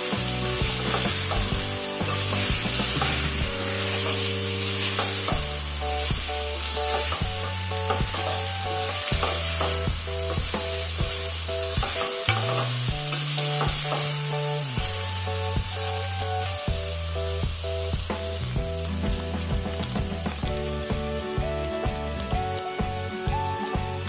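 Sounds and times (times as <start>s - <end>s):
background music with held notes: 0.0s - 24.0s
vegetables and meat sizzling: 0.0s - 24.0s.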